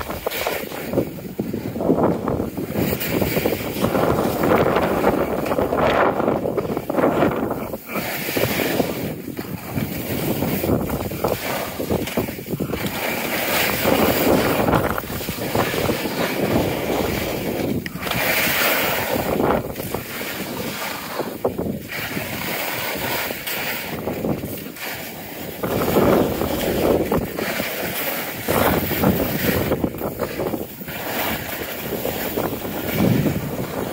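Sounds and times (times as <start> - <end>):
sliding on packed snow: 0.0 - 33.9
wind buffeting microphone: 0.0 - 33.9.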